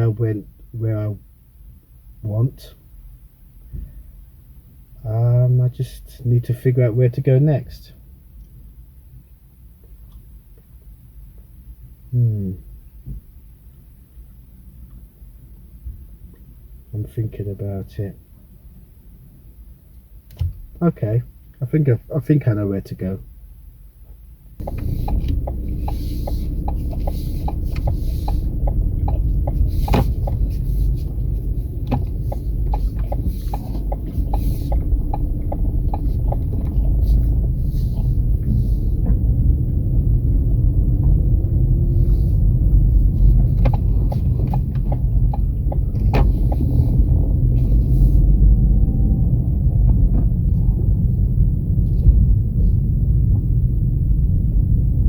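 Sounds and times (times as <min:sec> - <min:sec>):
vehicle driving rumble: 0:07.9 - 0:55.0.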